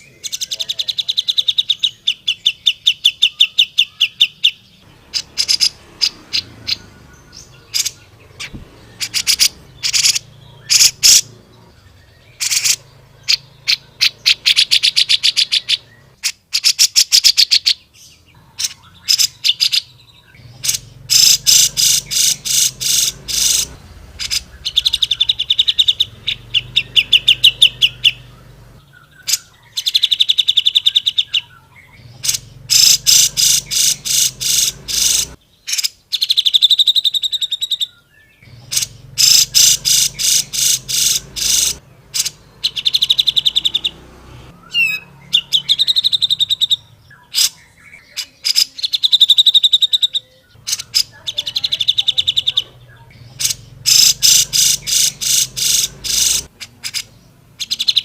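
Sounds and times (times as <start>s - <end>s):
bird singing trilled notes: 0.0s - 58.0s.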